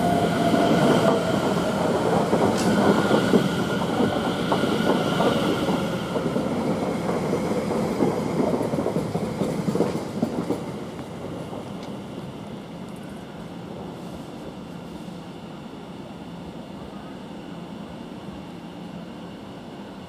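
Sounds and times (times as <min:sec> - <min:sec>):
faint train whine: 0:00.0 - 0:20.0.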